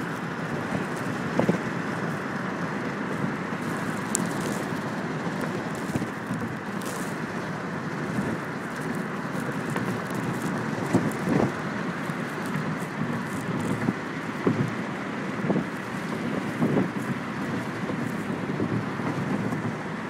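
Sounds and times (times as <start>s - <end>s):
road and wind noise inside car: 0.0s - 20.0s.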